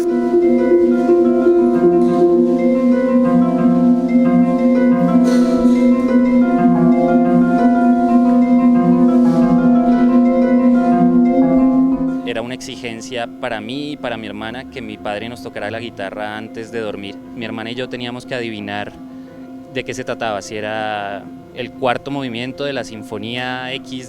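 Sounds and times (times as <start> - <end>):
sustained ringing mallet notes: 0.0 - 24.0.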